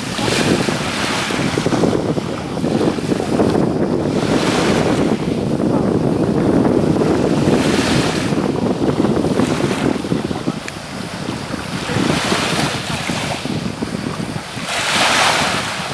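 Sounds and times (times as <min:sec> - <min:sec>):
surf washing onto pebbles: 0:00.0 - 0:15.9
wind gusting on microphone: 0:00.0 - 0:15.9.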